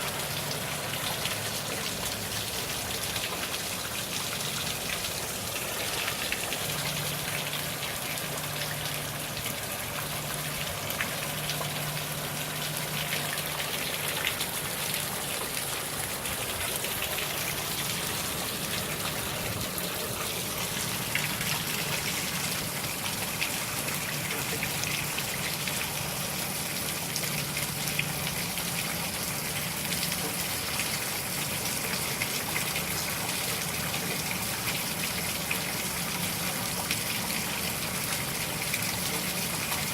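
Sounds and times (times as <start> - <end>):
heavy rain falling: 0.0 - 39.9
runoff water gushing: 0.0 - 39.9.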